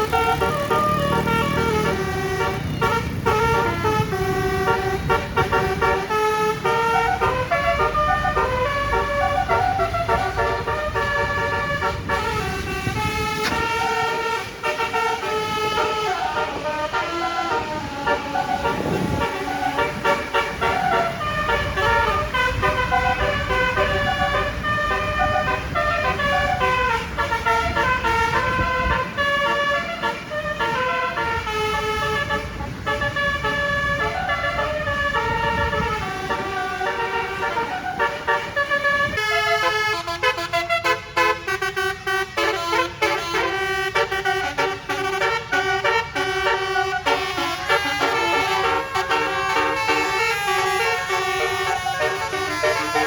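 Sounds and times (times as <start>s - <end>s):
musical air horns melody: 0.0s - 53.0s.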